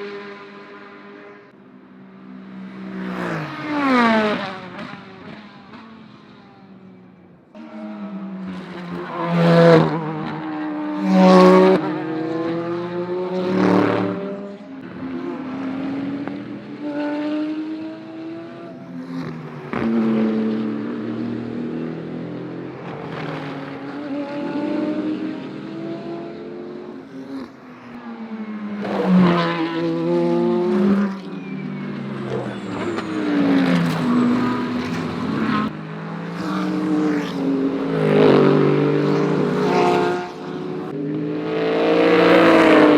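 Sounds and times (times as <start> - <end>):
race car engines passing: 0.0 - 42.9.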